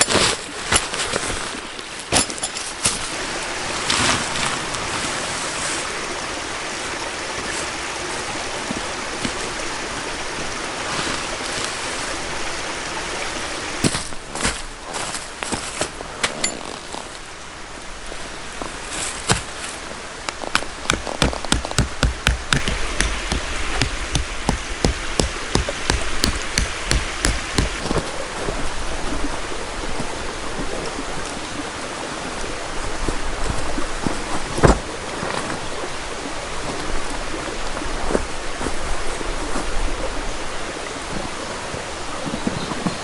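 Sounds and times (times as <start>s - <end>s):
rushing water: 0.0s - 43.0s.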